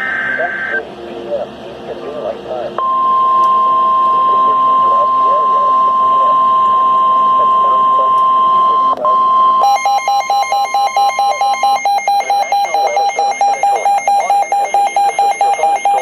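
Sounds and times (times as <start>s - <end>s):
rapid electronic beeping alarm: 0.0s - 0.9s, 2.8s - 16.0s
steady single-pitch tone: 0.0s - 1.2s, 2.8s - 16.0s.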